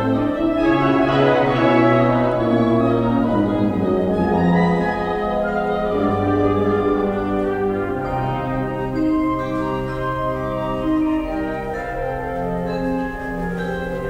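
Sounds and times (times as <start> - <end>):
wind band playing chords: 0.0 - 14.0.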